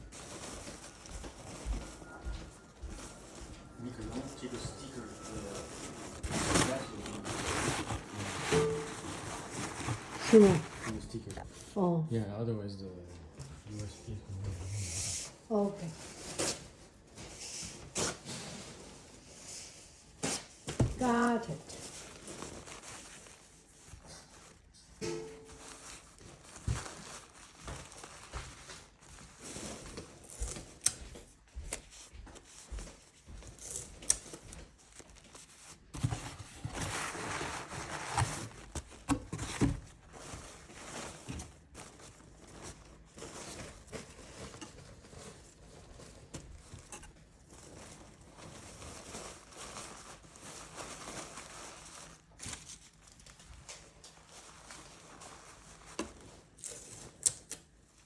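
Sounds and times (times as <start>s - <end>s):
wrapping material rustling: 0.0s - 12.0s, 13.5s - 58.0s.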